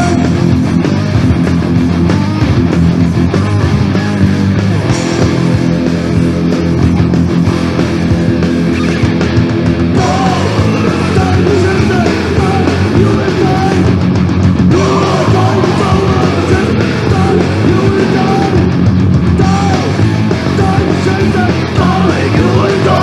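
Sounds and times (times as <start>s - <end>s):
punk rock band playing: 0.0s - 23.0s.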